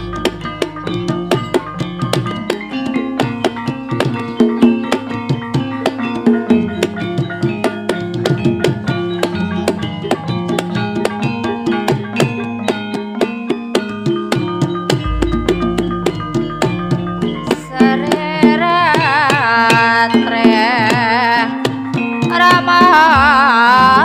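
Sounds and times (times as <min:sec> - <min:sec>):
hand drum strokes: 0:00.0 - 0:21.4
ringing bronze metallophone: 0:00.0 - 0:23.1.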